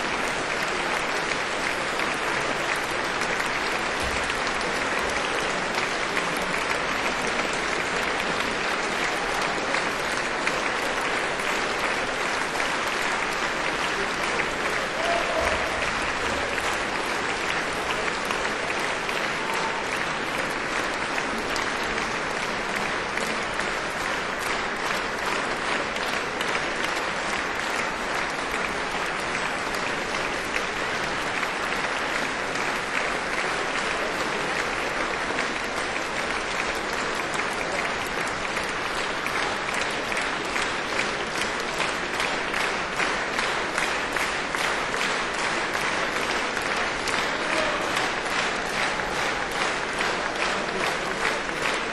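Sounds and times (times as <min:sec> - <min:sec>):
audience applauding: 0:00.0 - 0:51.9.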